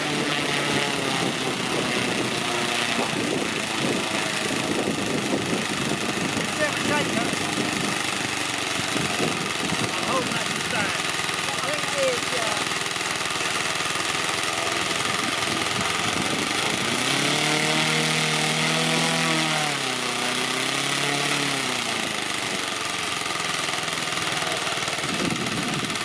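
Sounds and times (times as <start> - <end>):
model aircraft engine chattering: 0.0 - 26.0.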